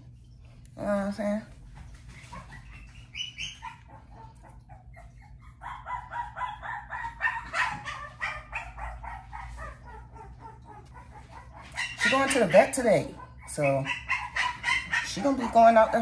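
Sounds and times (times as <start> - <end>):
puppy yipping and whining: 1.9 - 16.0.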